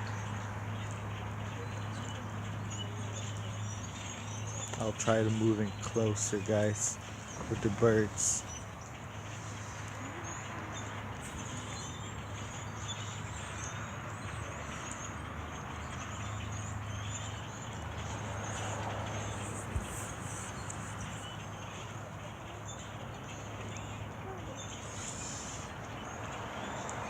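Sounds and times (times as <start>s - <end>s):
flock of birds chirping: 0.0s - 27.0s.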